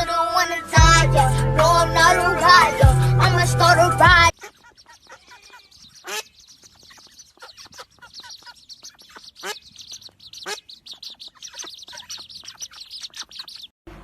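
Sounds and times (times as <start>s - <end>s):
baby birds peeping: 0.0s - 13.7s.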